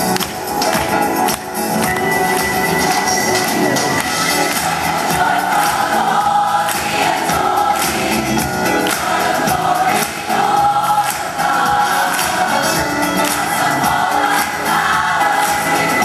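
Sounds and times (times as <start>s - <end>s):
steady beat: 0.0s - 16.0s
choir singing gospel song: 2.6s - 16.0s.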